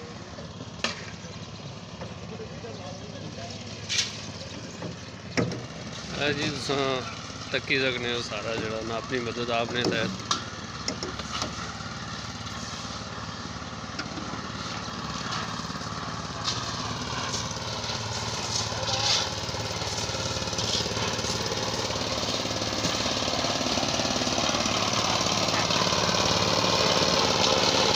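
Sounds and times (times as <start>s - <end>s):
concrete mixer engine running: 0.0s - 27.9s.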